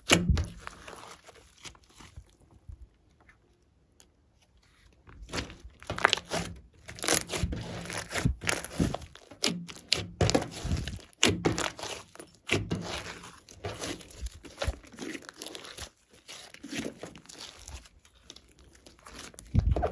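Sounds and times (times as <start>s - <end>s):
sticky slime crackles and squelches: 0.0s - 19.9s.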